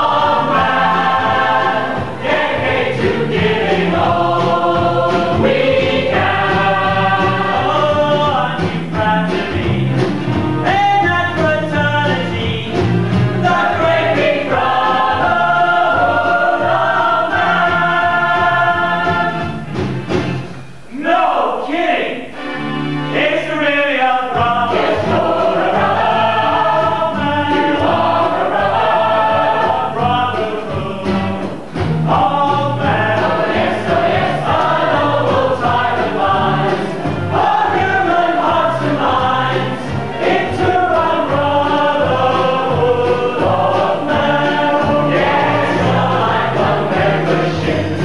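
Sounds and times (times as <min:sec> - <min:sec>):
cast singing chorus: 0:00.0 - 0:19.7, 0:23.1 - 0:48.0
instrumental accompaniment: 0:00.0 - 0:20.9, 0:22.3 - 0:48.0.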